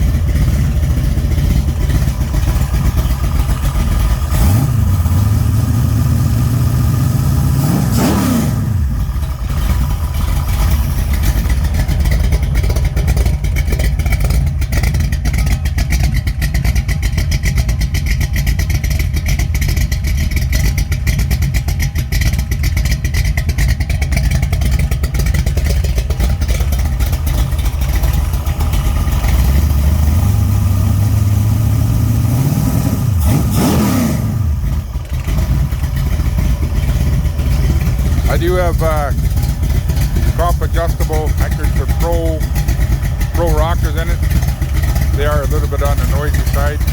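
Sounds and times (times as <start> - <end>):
valvetrain clatter: 0.0 - 5.1, 9.1 - 30.4, 34.6 - 46.9
car engine revving: 0.0 - 18.4, 23.7 - 46.9.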